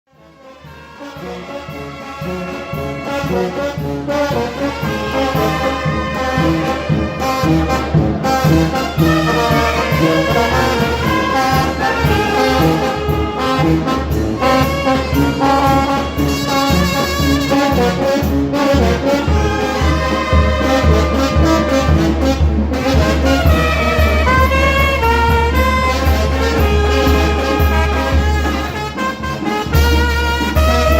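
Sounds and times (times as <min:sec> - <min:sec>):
brass band playing: 0:00.1 - 0:30.9.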